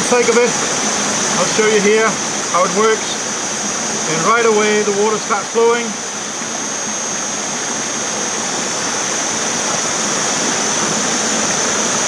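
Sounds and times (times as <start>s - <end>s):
creek rushing: 0.0s - 12.0s.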